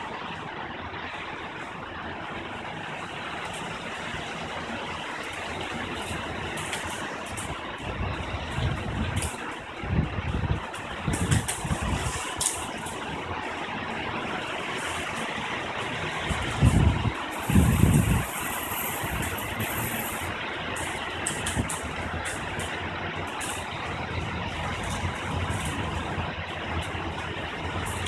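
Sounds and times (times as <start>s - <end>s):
rain hissing: 2.7s - 28.0s.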